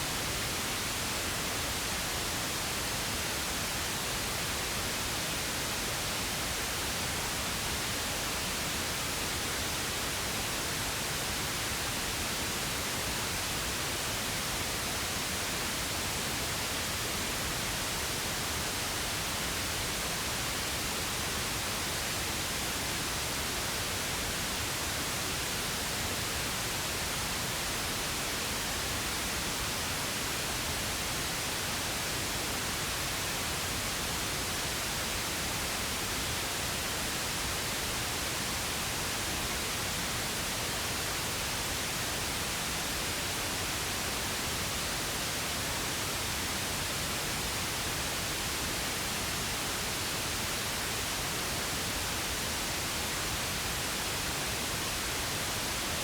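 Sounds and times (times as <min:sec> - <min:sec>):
steady pink noise hiss: 0:00.0 - 0:56.0.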